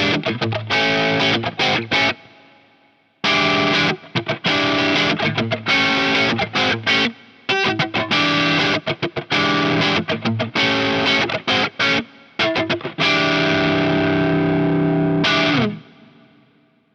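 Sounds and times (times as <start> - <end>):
distorted electric guitar chords: 0.0 - 16.6.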